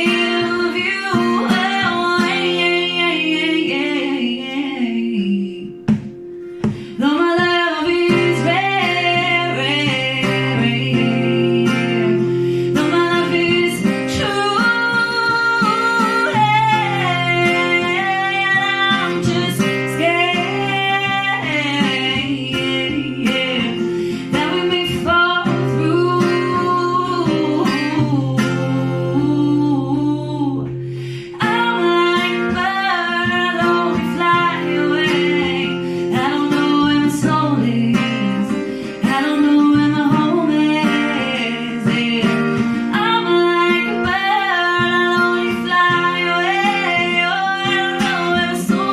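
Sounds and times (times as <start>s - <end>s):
person singing: 0.0s - 48.9s
strummed acoustic guitar: 0.0s - 48.9s.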